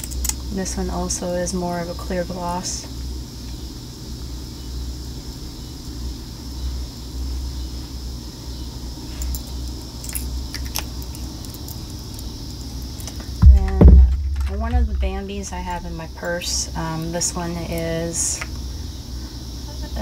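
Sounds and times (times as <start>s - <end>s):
faint high-pitched whine: 0.0s - 20.0s
low background hum: 0.0s - 20.0s.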